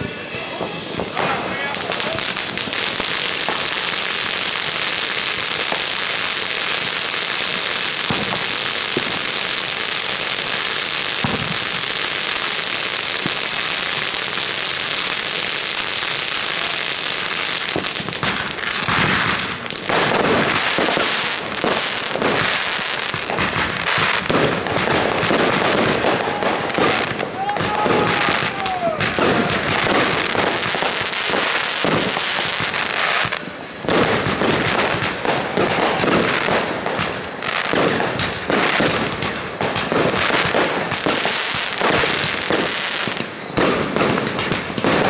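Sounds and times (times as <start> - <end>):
firecracker bangs: 0.0 - 45.0
fireworks fountains hissing and crackling: 0.0 - 45.0.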